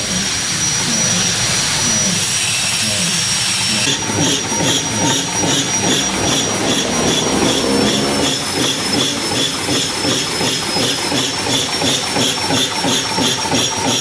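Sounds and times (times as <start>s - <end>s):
air compressor running: 0.0s - 14.0s
rhythmic compressor chuffing: 0.0s - 14.0s.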